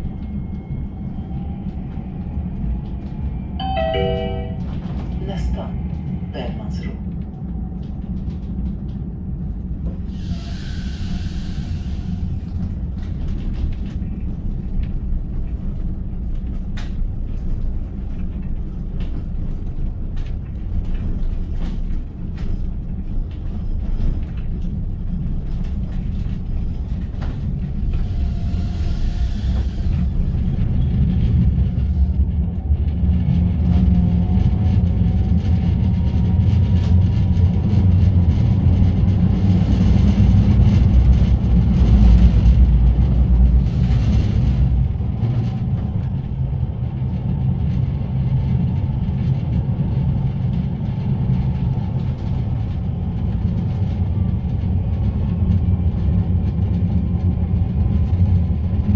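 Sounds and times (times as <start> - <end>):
tram wheels rumbling on rail: 0.0 - 58.9.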